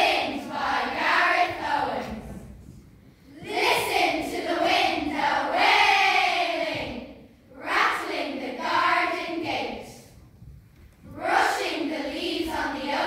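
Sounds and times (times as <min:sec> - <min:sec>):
children's choir singing: 0:00.0 - 0:10.2, 0:11.0 - 0:13.0.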